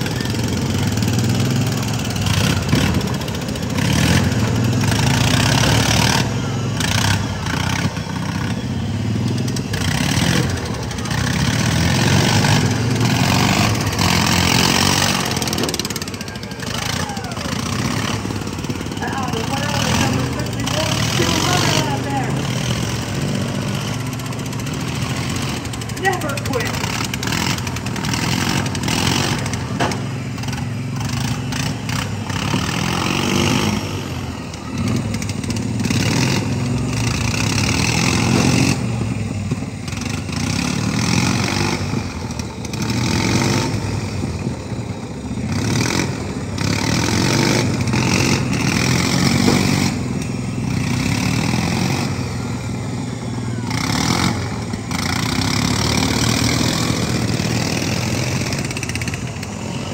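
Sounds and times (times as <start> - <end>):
lawn mower engines revving: 0.0 - 59.9.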